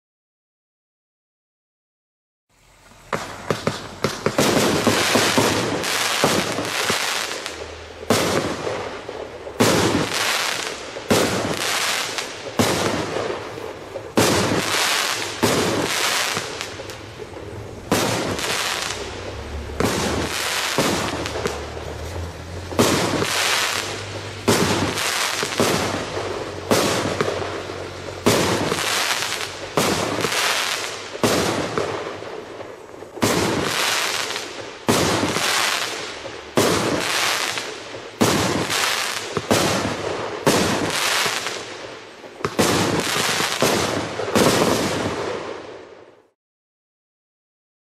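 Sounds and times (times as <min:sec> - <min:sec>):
fireworks bangs: 0:02.6 - 0:46.4.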